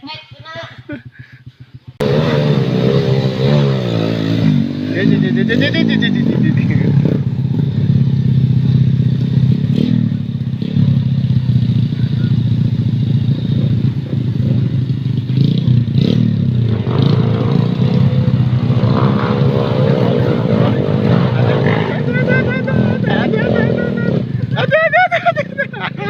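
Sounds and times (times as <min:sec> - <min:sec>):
motorcycle engine idling: 0:00.0 - 0:03.9, 0:04.6 - 0:26.0.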